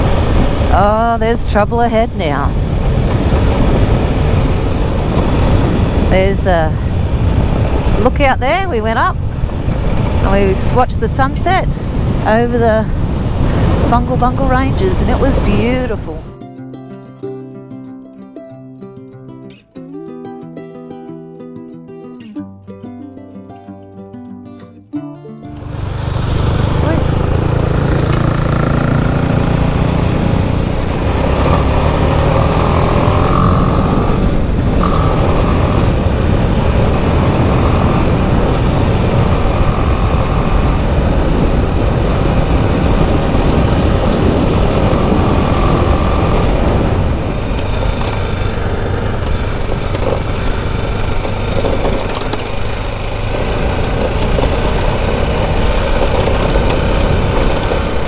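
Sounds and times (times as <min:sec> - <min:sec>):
motorcycle engine running: 0:00.0 - 0:16.4, 0:25.5 - 0:58.0
road and wind noise: 0:00.0 - 0:16.4, 0:25.5 - 0:58.0.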